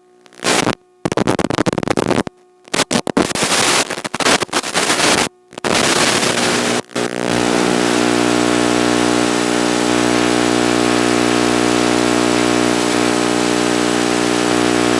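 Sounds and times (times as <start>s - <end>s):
static hiss: 0.0s - 14.9s
steady electronic buzz: 0.0s - 14.9s.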